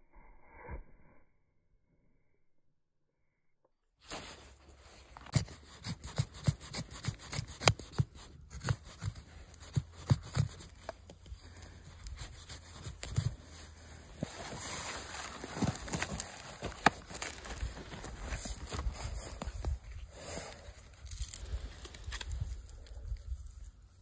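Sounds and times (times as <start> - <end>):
rustling: 4.0 - 24.0.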